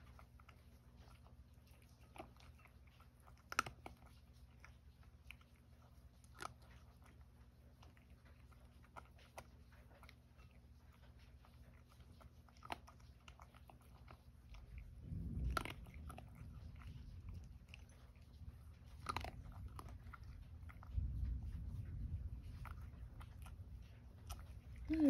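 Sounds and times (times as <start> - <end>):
cat crunching dry kibble: 0.0 - 25.0.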